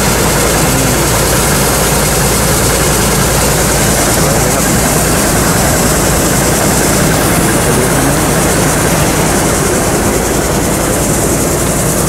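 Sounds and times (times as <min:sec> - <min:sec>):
harvester engine running: 0:00.0 - 0:12.0.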